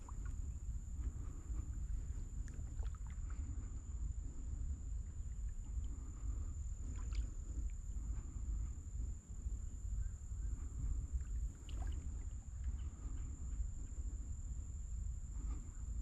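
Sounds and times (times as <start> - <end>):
steady high-pitched whine: 0.0 - 16.0
wind rumble on microphone: 0.0 - 16.0.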